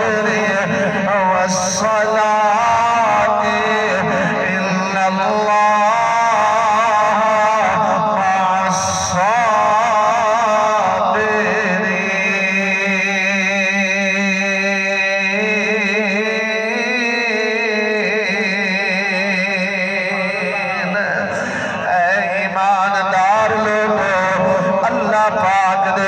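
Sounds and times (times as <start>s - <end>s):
man chanting into a microphone: 0.0s - 26.0s.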